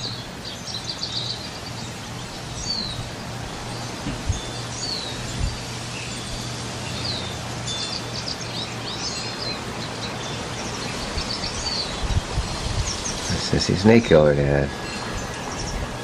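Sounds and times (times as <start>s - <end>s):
small birds chirping: 0.0s - 16.0s
wind hissing: 0.0s - 16.0s.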